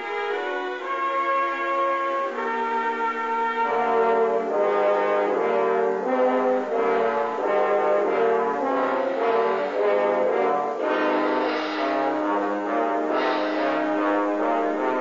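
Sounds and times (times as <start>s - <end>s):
orchestral brass chords: 0.0s - 15.0s.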